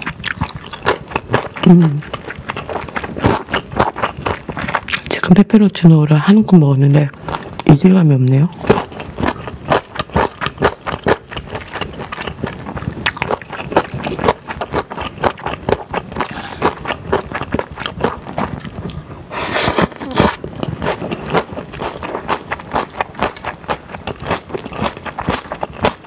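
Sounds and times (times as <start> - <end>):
close chewing with wet mouth smacks: 0.0 - 6.1, 6.8 - 26.0.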